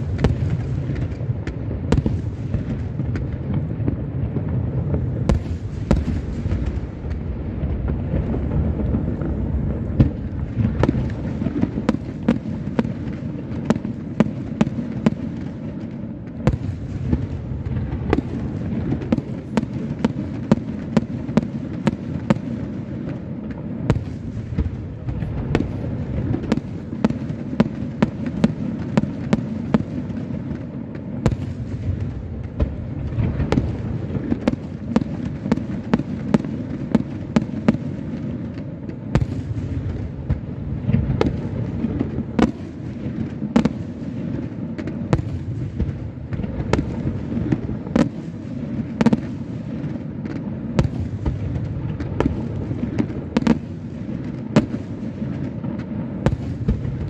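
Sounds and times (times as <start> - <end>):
fireworks rumble: 0.0 - 57.0
sharp firework bangs: 0.0 - 57.0.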